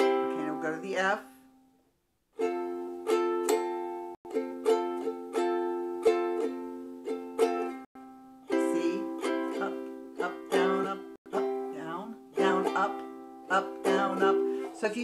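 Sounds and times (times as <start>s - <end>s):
ukulele strumming: 0.0s - 1.2s, 2.4s - 15.0s.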